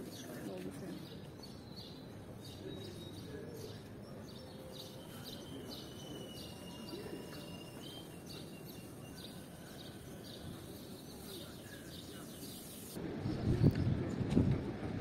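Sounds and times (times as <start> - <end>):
small birds chirping: 0.0 - 13.0
faint outdoor ambience: 0.0 - 15.0.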